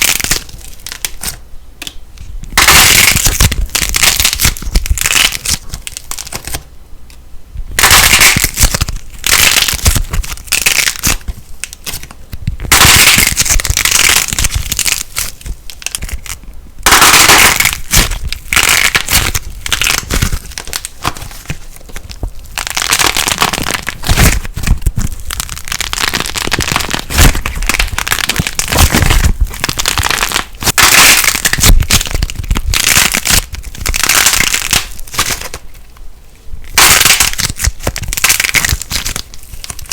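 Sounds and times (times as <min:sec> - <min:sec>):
plasticine crackling and popping: 0:00.0 - 0:39.9.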